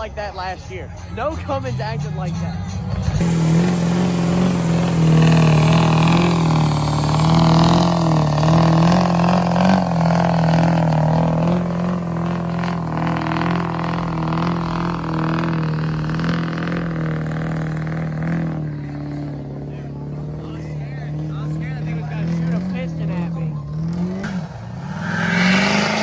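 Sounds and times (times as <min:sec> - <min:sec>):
diesel engine at high revs: 0:00.0 - 0:26.0.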